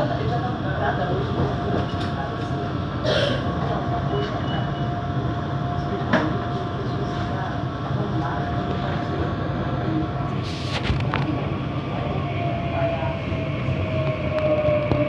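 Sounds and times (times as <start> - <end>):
train low rumble and hum: 0.0 - 15.0.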